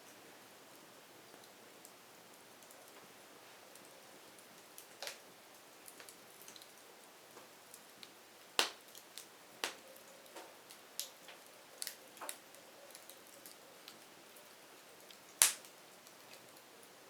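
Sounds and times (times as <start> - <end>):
firewood crackling and popping: 0.1 - 17.0.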